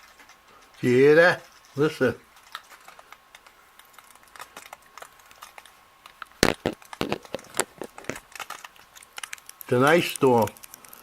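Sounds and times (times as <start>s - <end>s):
ice pellets ticking: 0.0s - 11.0s.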